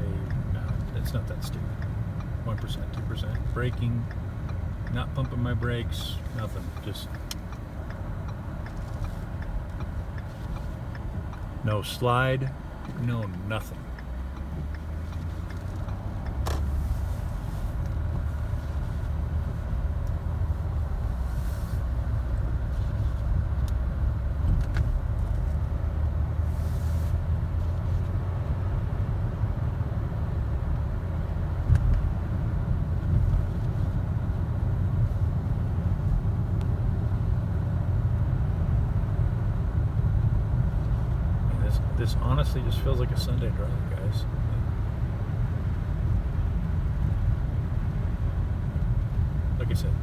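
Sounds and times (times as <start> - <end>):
car cabin road rumble: 0.0 - 50.0.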